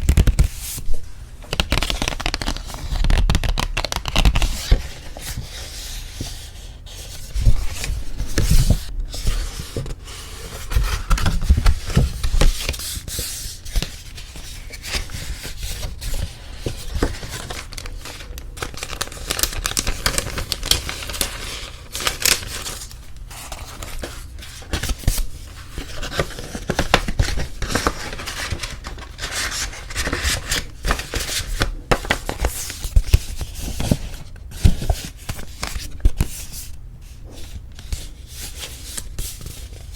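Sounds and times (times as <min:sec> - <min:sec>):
paper cards rustling and crinkling: 0:00.0 - 0:39.9.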